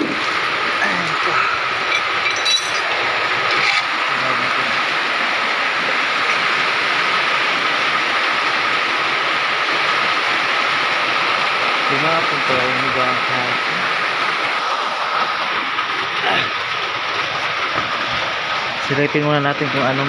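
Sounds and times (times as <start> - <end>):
heavy rain on a metal roof: 0.0 - 20.0.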